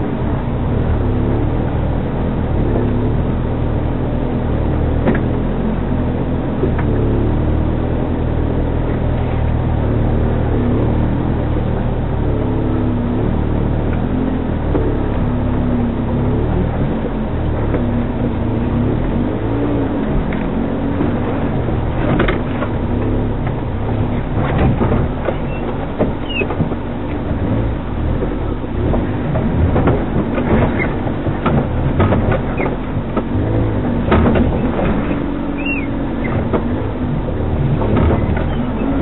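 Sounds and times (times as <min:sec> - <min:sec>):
off-road vehicle engine at low revs: 0:00.0 - 0:39.0
vehicle knocks and rattles: 0:03.8 - 0:12.7, 0:13.7 - 0:39.0.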